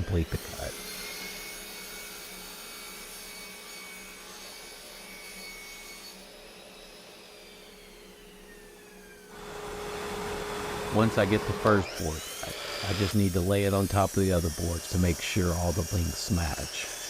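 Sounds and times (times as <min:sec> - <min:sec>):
miter saw motor whine: 0:00.0 - 0:17.0.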